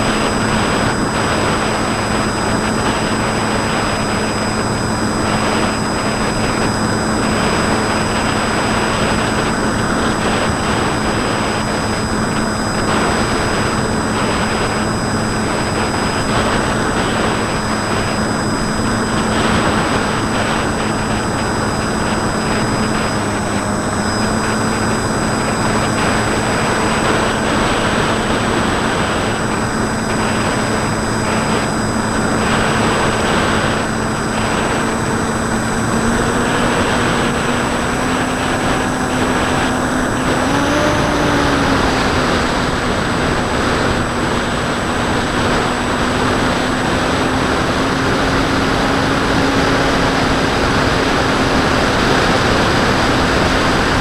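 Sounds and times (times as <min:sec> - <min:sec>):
model plane motor droning: 0:00.0 - 0:54.0
wind rush: 0:00.0 - 0:54.0.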